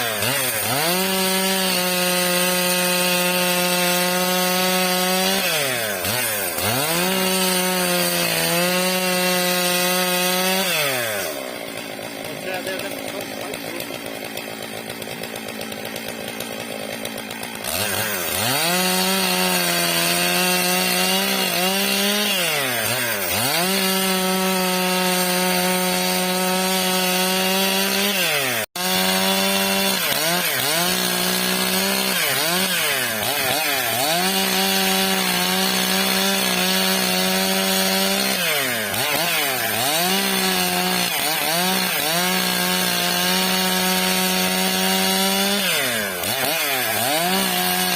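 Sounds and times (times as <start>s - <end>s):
chainsaw cutting log: 0.0s - 47.9s.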